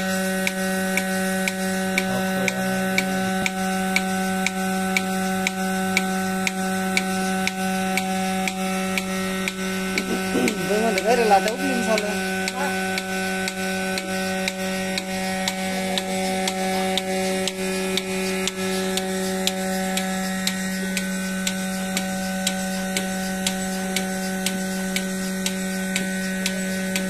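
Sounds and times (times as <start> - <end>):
vacuum pump motor hum: 0.0 - 27.0
pulsator sharp clicks: 0.4 - 27.0.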